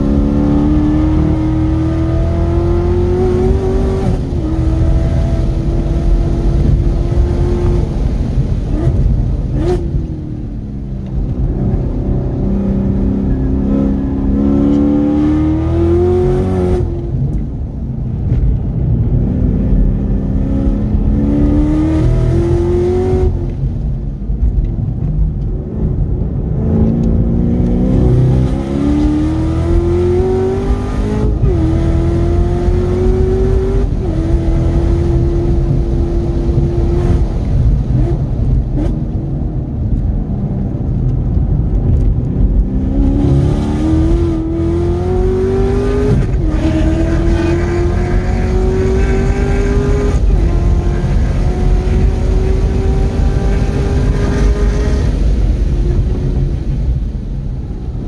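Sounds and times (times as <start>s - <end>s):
car engine revving: 0.0s - 17.4s, 18.2s - 23.8s, 25.1s - 56.9s
road and tyre rumble: 0.0s - 58.0s.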